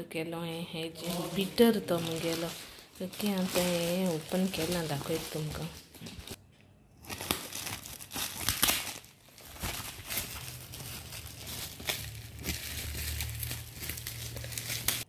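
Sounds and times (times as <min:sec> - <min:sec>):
plastic packaging crinkling: 0:01.0 - 0:06.4, 0:07.0 - 0:15.0.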